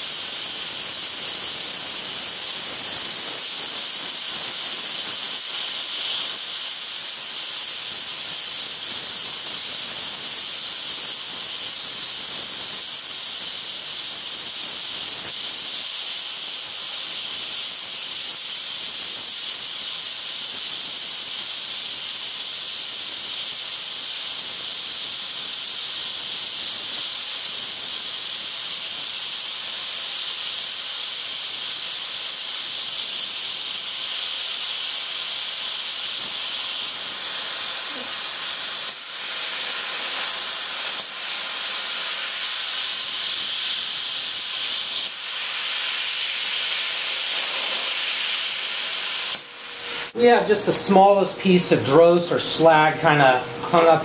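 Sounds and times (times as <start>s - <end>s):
plasma cutter hissing: 0.0s - 54.0s.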